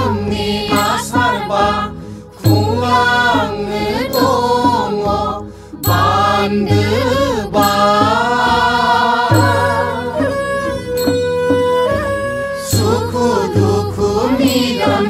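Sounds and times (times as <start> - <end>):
deep bass note: 0.0 - 14.5
instrumental backing: 0.0 - 15.0
person singing: 0.0 - 15.0.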